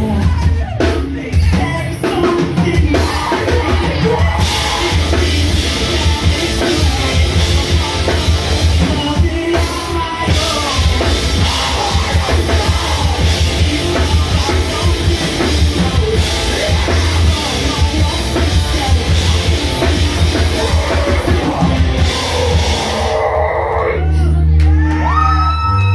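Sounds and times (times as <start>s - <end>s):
drum kit: 0.0s - 23.9s
person singing into microphone: 0.0s - 25.8s
distorted electric guitar: 2.1s - 24.5s.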